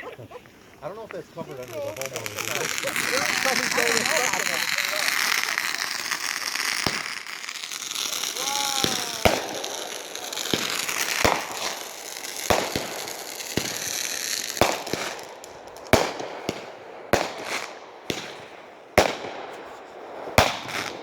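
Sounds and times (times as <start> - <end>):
fireworks bangs: 0.0 - 21.0
fireworks crackling hiss: 0.0 - 21.0.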